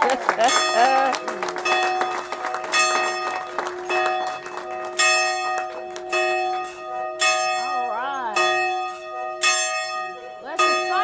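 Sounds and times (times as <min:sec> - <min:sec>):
church bell ringing: 0:00.0 - 0:11.0.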